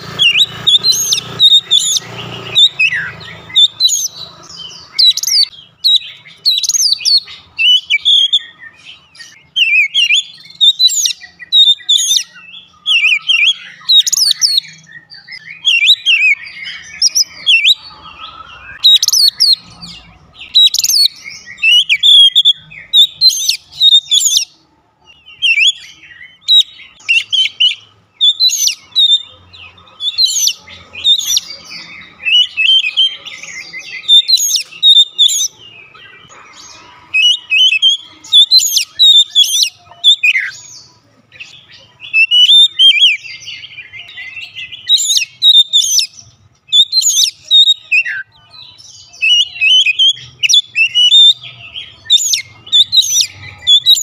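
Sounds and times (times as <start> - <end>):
bird singing whistles and trills: 0.0 - 24.6, 25.2 - 54.0.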